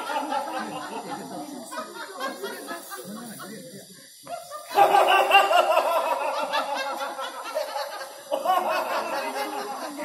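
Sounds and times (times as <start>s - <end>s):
people laughing loudly: 0.0s - 3.6s, 4.3s - 10.0s.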